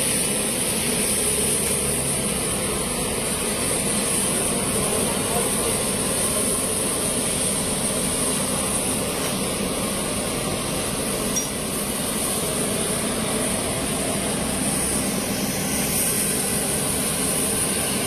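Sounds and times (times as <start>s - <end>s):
jet engine roar with whine: 0.0s - 18.0s.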